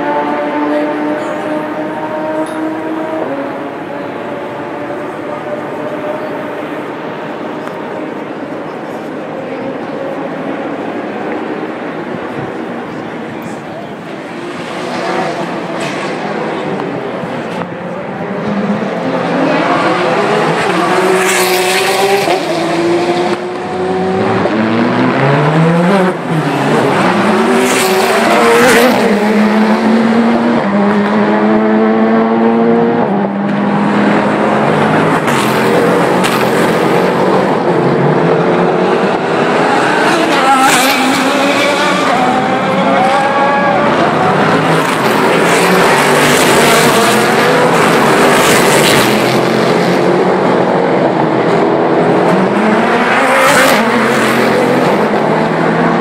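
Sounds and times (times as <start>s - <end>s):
race cars passing: 0.0s - 56.0s.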